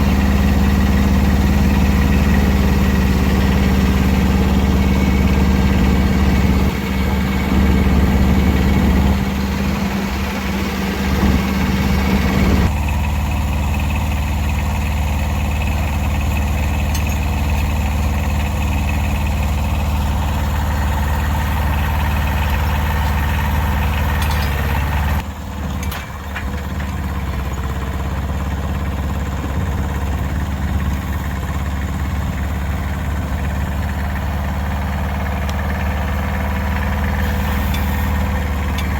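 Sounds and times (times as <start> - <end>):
vehicle engine running steadily: 0.0 - 38.9.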